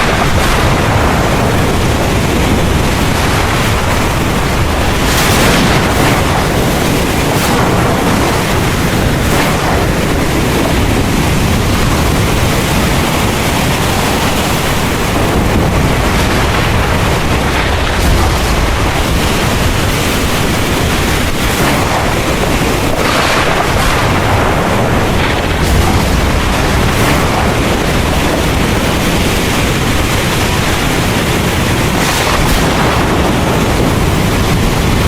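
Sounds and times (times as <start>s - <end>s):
heavy rain pouring: 0.0s - 35.0s
thunder rumbling: 0.0s - 35.0s.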